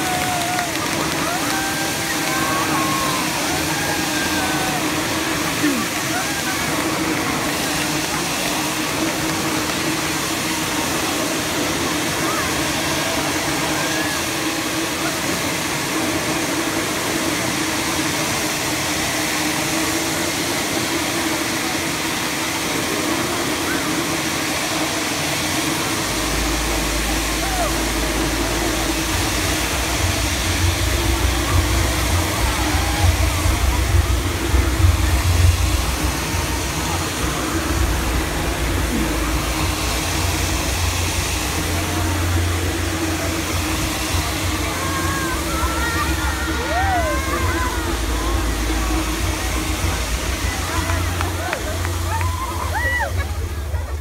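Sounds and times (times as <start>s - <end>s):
confetti cannon rush of air: 0.0s - 54.0s
low hum: 0.0s - 54.0s.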